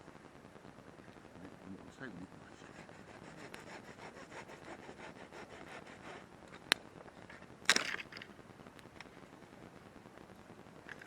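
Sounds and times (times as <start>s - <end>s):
wood campfire crackling: 0.7s - 11.0s.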